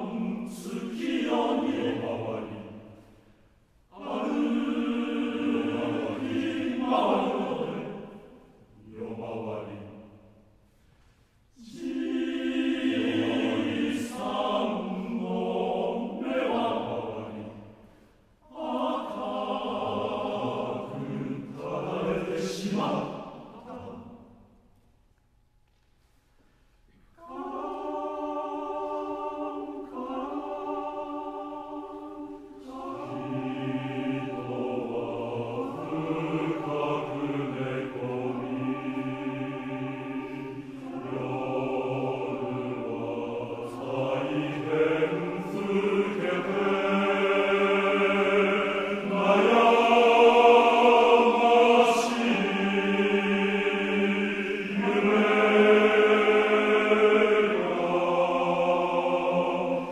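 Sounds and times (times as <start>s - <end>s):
men's choir singing unaccompanied: 0.0s - 2.9s, 3.9s - 10.3s, 11.6s - 17.8s, 18.4s - 24.4s, 27.2s - 59.9s.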